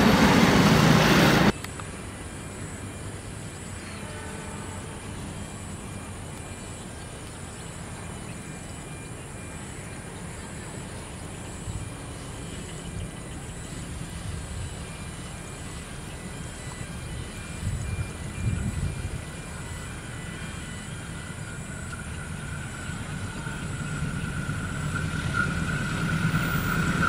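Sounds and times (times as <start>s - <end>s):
train rumble approaching: 0.0s - 27.0s.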